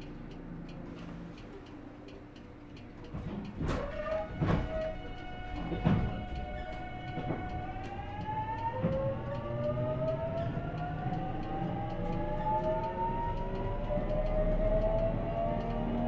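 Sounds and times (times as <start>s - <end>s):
electric train motors whining: 2.8s - 16.0s.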